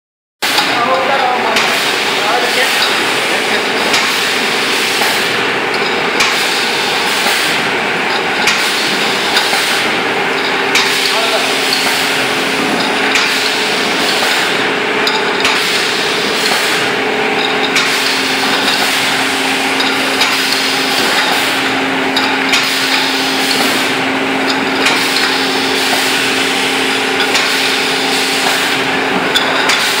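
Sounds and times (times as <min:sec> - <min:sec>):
machine motor hum and clatter: 0:00.4 - 0:30.0.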